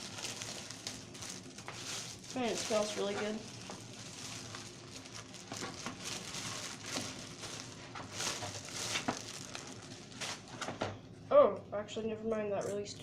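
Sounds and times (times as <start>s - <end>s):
keyboard and packaging handling: 0.0s - 10.8s.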